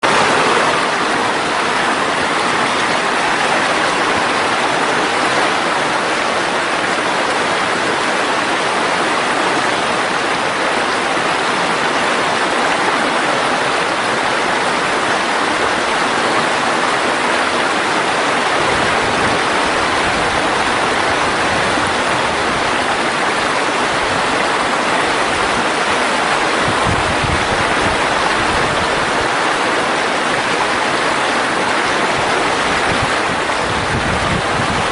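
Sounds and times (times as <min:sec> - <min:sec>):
stream flowing water: 0:00.0 - 0:34.9.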